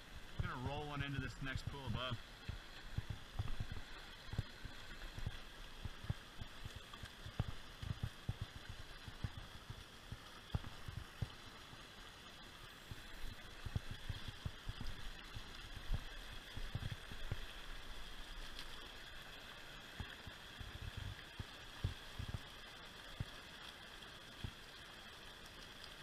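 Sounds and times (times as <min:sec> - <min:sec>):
creek water rushing over rocks: 0:00.0 - 0:26.0.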